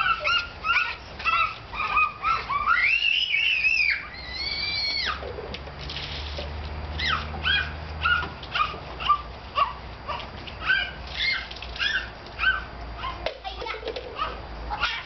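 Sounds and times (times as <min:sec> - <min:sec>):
dog yipping: 0:00.0 - 0:05.3, 0:07.0 - 0:13.3, 0:14.1 - 0:15.0.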